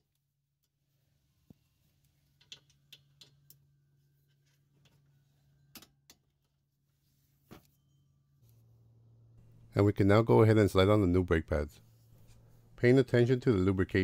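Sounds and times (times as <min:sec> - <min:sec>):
faint low hum: 0:01.0 - 0:14.0.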